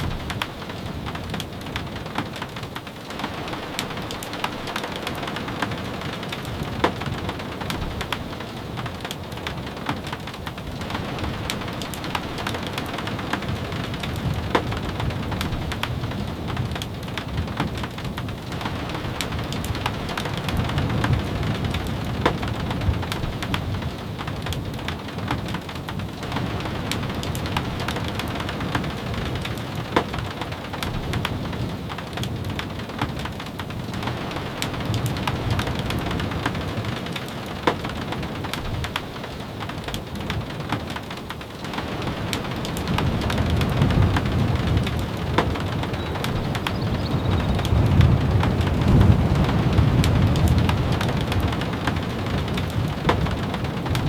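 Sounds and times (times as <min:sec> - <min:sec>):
rain on a wooden cabin: 0:00.0 - 0:54.0
sharp rain ticks: 0:00.0 - 0:54.0.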